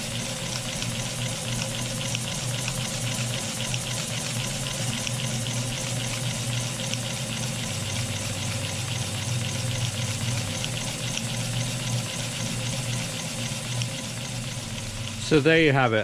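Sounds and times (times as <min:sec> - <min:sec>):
model steam engine chuffing: 0:00.0 - 0:16.0
steady low hum: 0:00.0 - 0:16.0.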